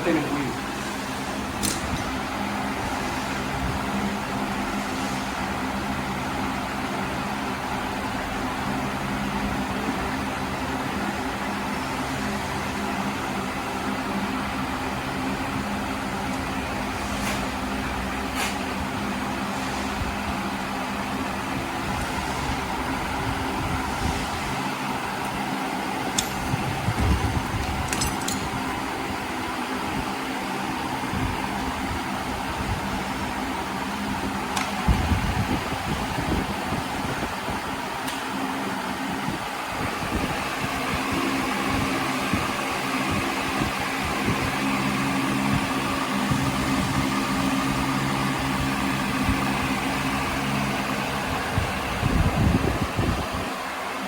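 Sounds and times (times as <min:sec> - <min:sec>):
mechanical hum: 0:00.0 - 0:54.0
steady hiss of air: 0:00.0 - 0:54.0.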